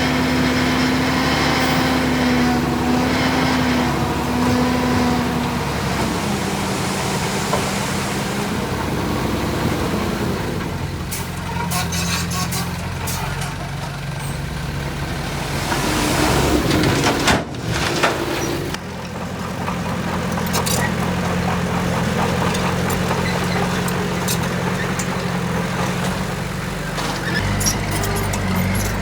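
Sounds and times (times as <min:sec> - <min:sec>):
diesel machinery engine running: 0:00.0 - 0:29.0.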